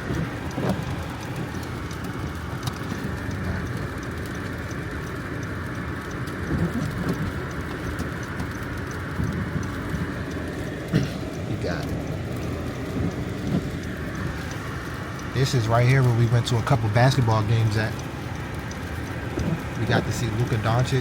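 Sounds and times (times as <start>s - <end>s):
car engine rumble: 0.0s - 21.0s
faint ticks: 0.0s - 21.0s.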